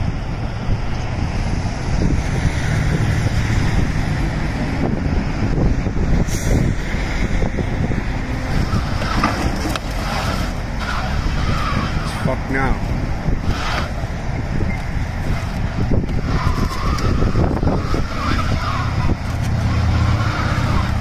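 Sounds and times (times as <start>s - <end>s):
tow truck engine running: 0.0s - 21.0s
wind on microphone: 0.0s - 21.0s.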